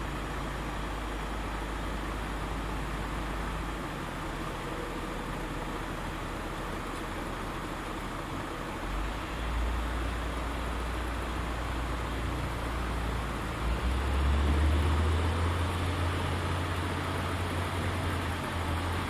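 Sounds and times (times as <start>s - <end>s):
heavy diesel engine revving: 0.0s - 19.0s.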